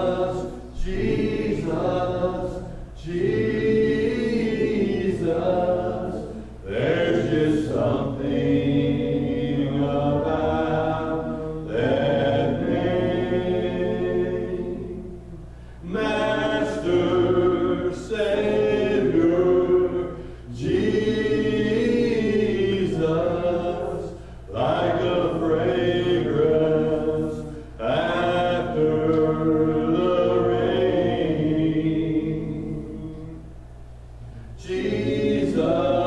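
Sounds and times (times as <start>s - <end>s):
congregation singing unaccompanied: 0.0s - 33.7s, 34.4s - 36.0s
steady low hum: 0.0s - 36.0s.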